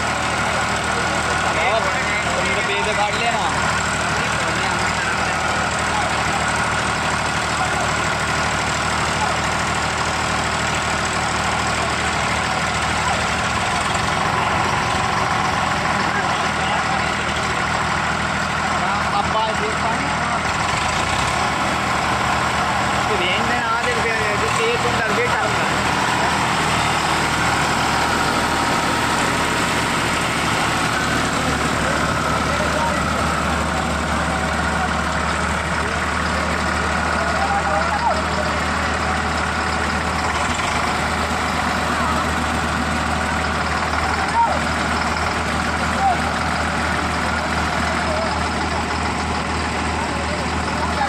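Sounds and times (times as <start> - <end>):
diesel tractor engines running: 0.0 - 51.0.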